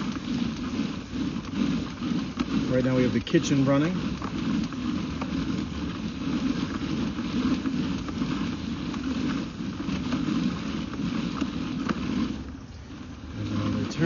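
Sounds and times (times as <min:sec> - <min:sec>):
water rushing through drain pipe: 0:00.0 - 0:14.0.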